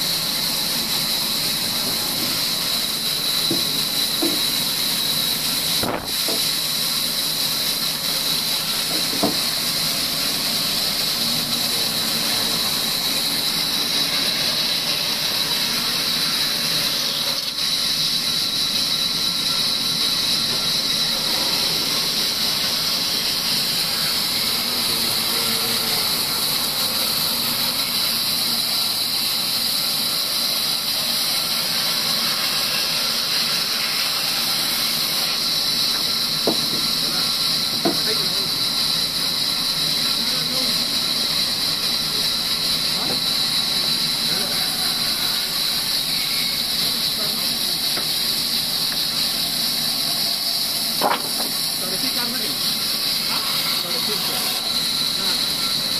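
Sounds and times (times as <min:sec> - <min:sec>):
band saw cutting wood: 0:00.0 - 0:55.9.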